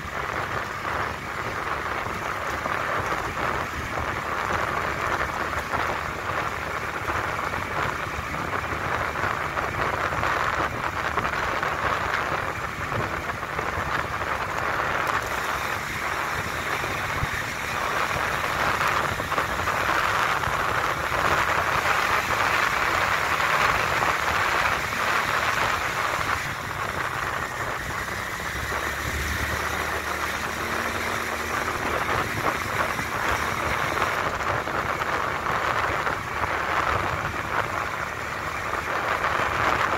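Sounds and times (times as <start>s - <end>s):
low rumble: 0.0s - 39.9s
tyre noise on road: 0.0s - 39.9s
wind noise: 0.0s - 39.9s.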